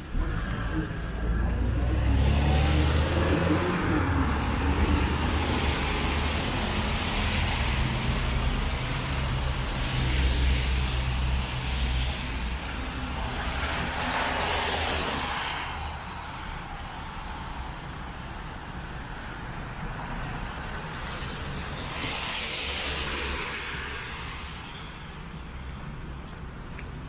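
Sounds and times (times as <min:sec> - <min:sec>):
car and truck engines humming: 0:00.0 - 0:27.0
tyre noise of passing vehicles: 0:00.0 - 0:27.0.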